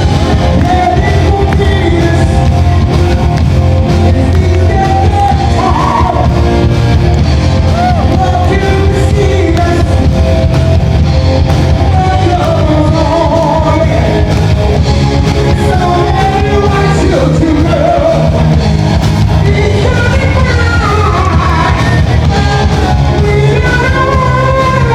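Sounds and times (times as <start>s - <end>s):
person singing: 0.0s - 11.0s, 11.6s - 14.4s, 15.3s - 18.7s, 19.3s - 24.9s
bass guitar: 0.0s - 24.9s
drums: 0.0s - 24.9s
electric guitar: 0.0s - 24.9s.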